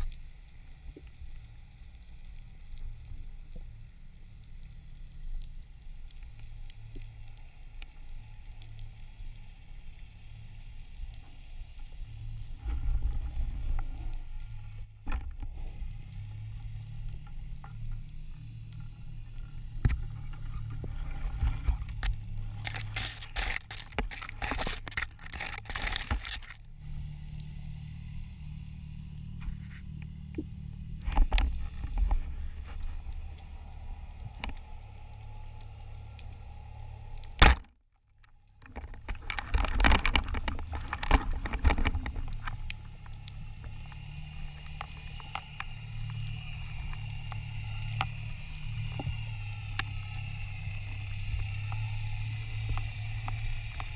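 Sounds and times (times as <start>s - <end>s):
underwater rumble: 0.0s - 53.9s.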